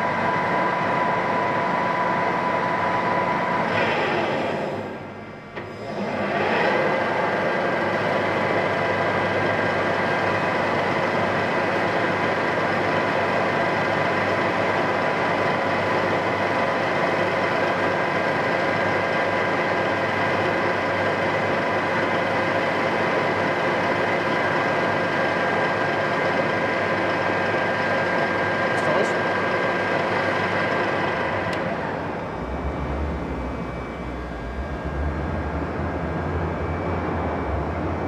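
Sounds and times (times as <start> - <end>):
high-pitched whine: 0.0 - 8.2, 9.0 - 38.0
lathe running idle: 0.0 - 38.0.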